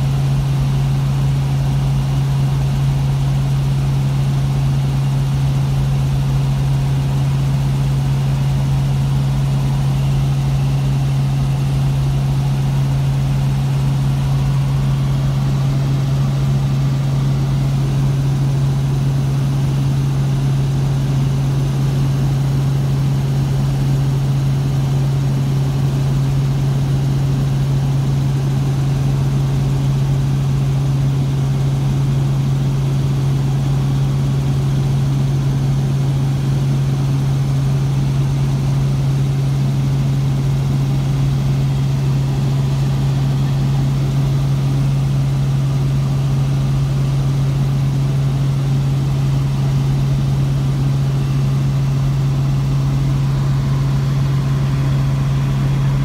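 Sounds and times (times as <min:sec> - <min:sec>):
helicopter cabin drone: 0:00.0 - 0:56.0.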